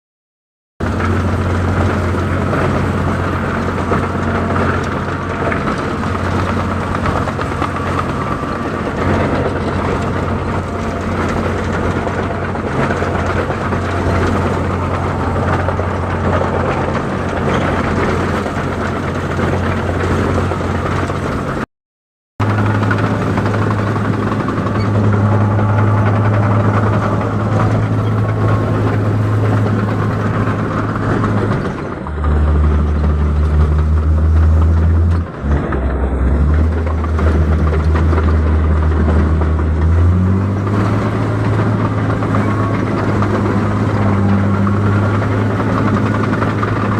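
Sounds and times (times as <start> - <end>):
combine harvester diesel engine: 0.8 - 21.7, 22.4 - 46.9.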